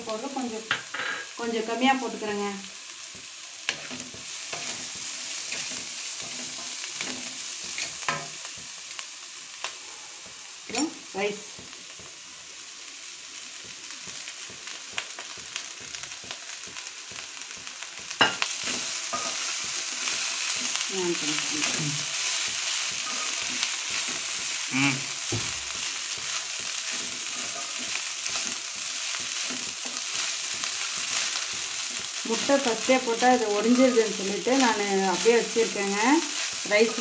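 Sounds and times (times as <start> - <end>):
food sizzling in a wok: 0.0 - 37.0.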